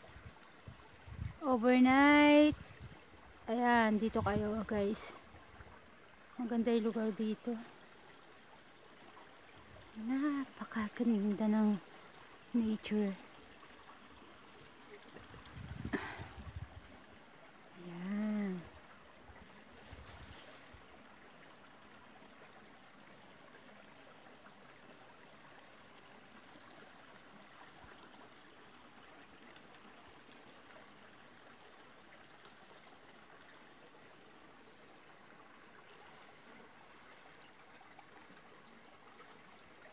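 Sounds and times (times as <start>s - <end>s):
faint outdoor hiss: 0.0s - 39.9s.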